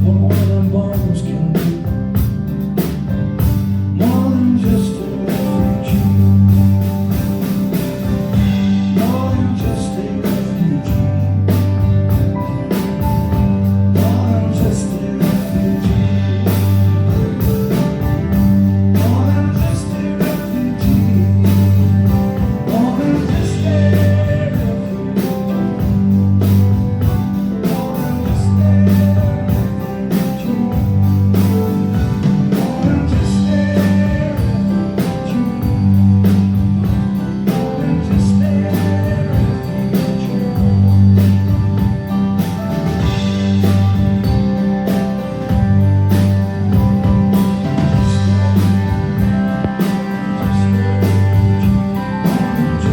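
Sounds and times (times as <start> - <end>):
person singing: 0.0 - 2.4, 3.9 - 7.4, 8.2 - 41.5, 47.0 - 52.9
bass line: 0.0 - 52.9
drum kit: 0.0 - 52.9
electric guitar: 0.0 - 52.9.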